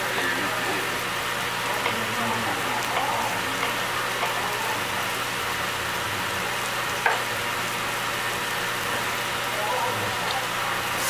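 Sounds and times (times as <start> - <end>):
kitchen fan hum: 0.0 - 11.0
meat sizzling in a pot: 0.0 - 11.0.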